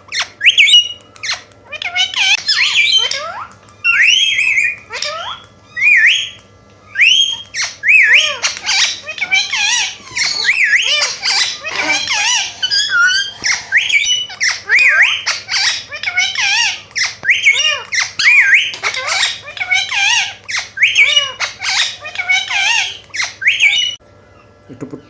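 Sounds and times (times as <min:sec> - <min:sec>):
parrot squawking: 0:00.1 - 0:24.0.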